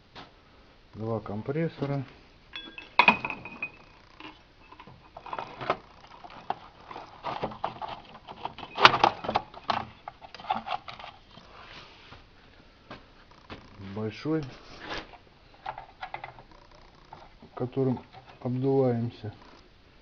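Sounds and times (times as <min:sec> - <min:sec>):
knocks and rattles of handled objects: 0:01.8 - 0:11.6, 0:12.9 - 0:19.6.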